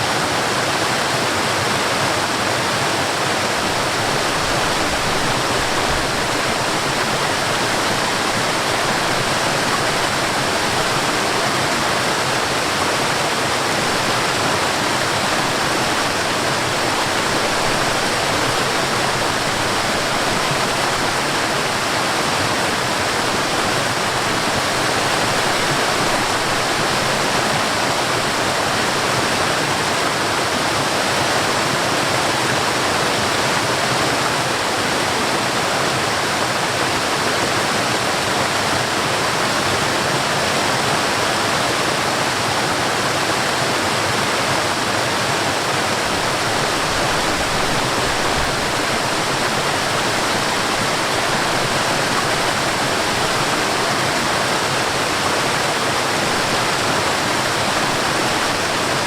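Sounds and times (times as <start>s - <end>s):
water flowing over small waterfall: 0.0s - 59.0s.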